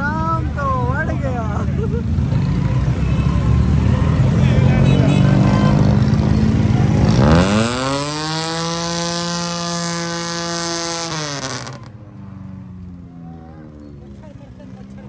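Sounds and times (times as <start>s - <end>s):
traffic and engine noise: 0.0s - 15.0s.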